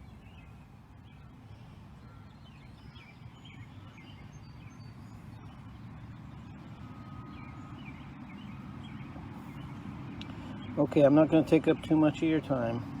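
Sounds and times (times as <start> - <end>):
low rumble of road traffic: 0.0 - 13.0
small birds chirping: 0.0 - 13.0.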